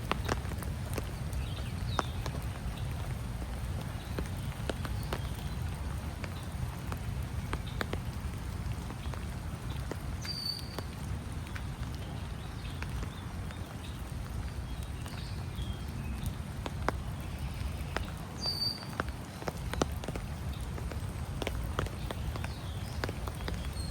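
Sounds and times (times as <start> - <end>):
raindrops pattering: 0.0 - 23.9.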